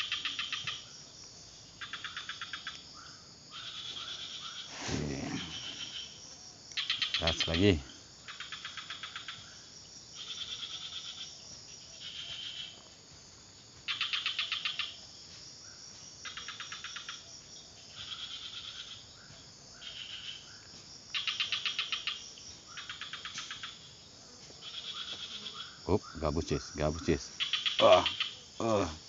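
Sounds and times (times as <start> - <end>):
insects pulsed trills: 0.0 - 29.0.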